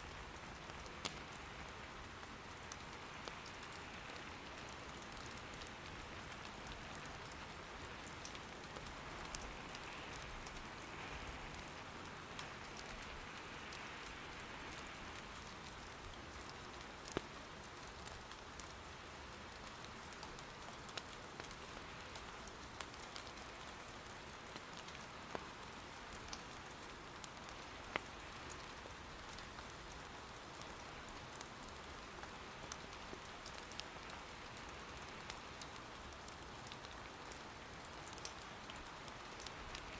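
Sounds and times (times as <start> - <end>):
rain pattering: 0.0 - 39.9
firewood crackling: 0.1 - 23.5, 24.1 - 39.9.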